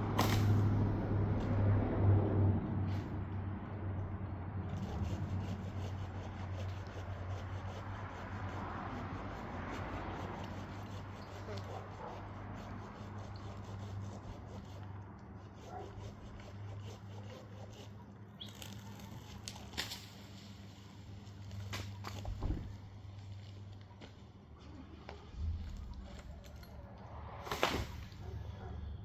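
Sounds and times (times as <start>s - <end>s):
wood and branches scraping: 4.6s - 28.7s.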